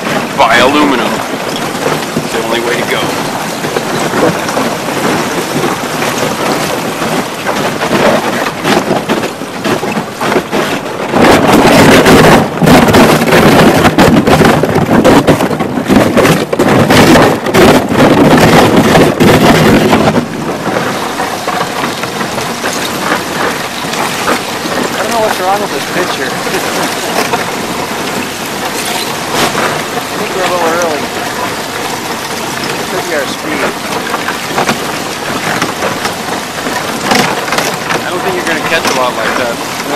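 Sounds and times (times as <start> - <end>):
ice crackling against boat hull: 0.0 - 39.9
water splashing: 0.0 - 39.9.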